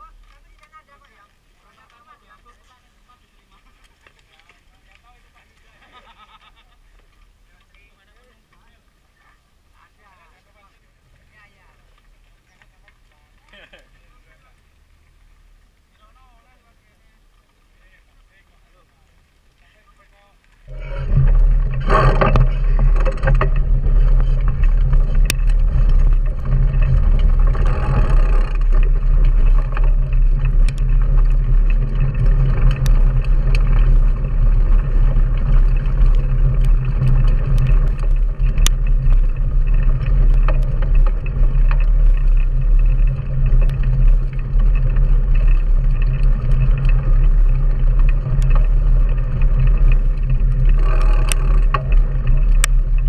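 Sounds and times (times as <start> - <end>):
gravel clicks and bike rattle: 0.0 - 53.0
wind and road rumble: 0.0 - 53.0.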